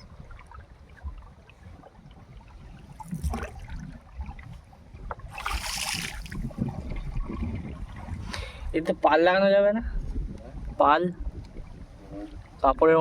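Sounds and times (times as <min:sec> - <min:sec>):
water splashing around a boat: 0:00.0 - 0:09.3, 0:10.0 - 0:13.0
wind rumble on microphone: 0:00.0 - 0:13.0.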